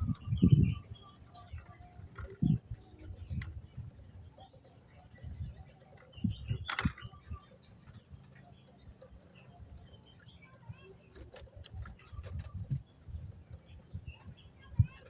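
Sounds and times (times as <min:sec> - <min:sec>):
bird chirping softly: 0:00.0 - 0:15.0.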